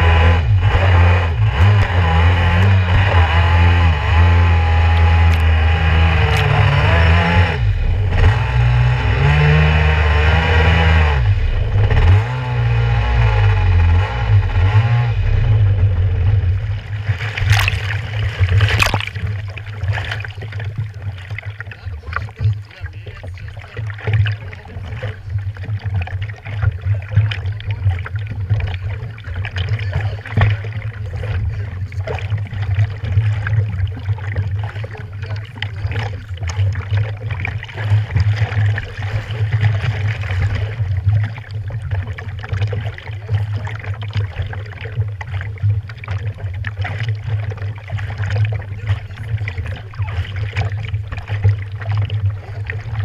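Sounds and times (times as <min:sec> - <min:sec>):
small waves lapping against hull: 0:00.0 - 0:53.0
steady low rumble: 0:00.0 - 0:53.0.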